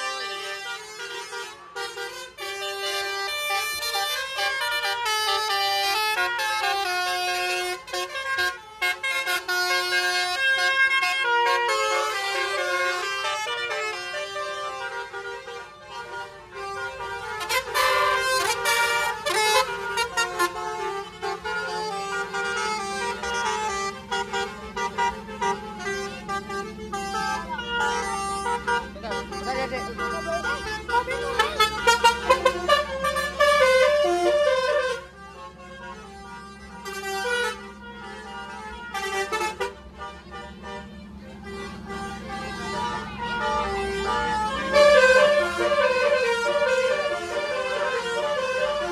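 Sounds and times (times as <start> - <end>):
musical vehicle horn playing tune: 0.0 - 48.9.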